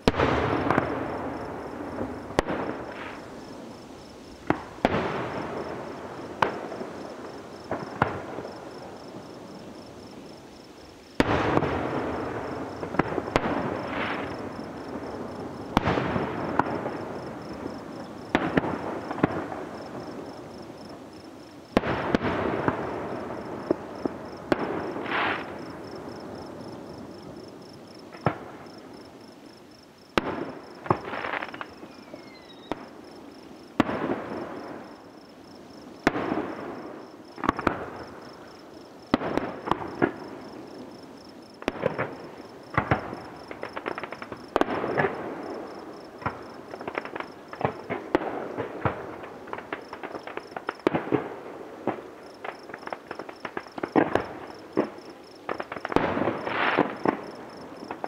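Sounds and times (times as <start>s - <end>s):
fireworks bursting with echo: 0.0s - 29.4s, 30.1s - 58.0s.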